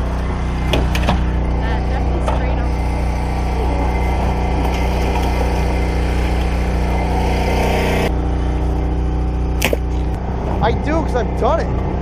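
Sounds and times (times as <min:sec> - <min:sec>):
generator humming: 0:00.0 - 0:12.0.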